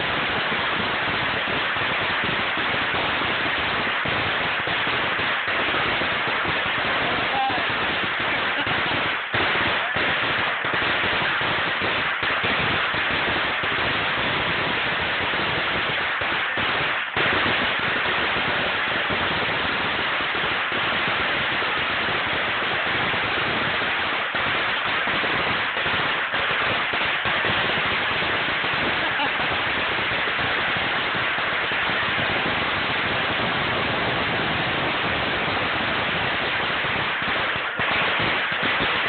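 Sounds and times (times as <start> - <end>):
firecrackers crackling: 0.0 - 39.0.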